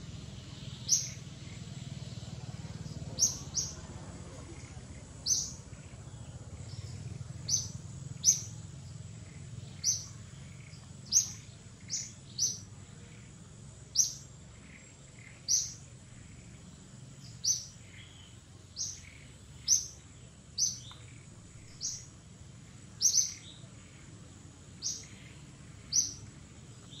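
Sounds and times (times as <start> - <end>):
bird chirping: 0.0 - 27.0
low background rumble: 0.0 - 27.0.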